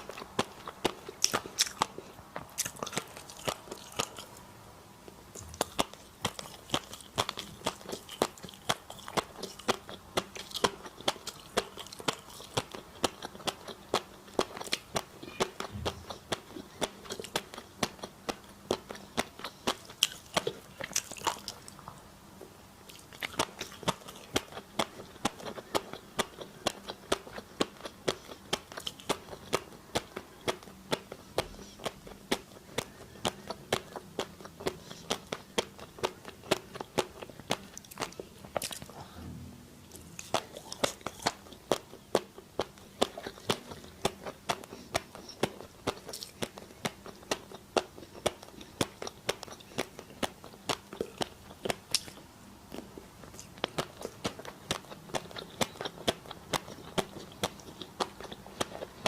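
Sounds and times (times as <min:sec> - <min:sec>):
crunchy food chewing: 0:00.0 - 0:04.5, 0:05.1 - 0:22.1, 0:22.8 - 0:39.2, 0:39.9 - 0:59.0.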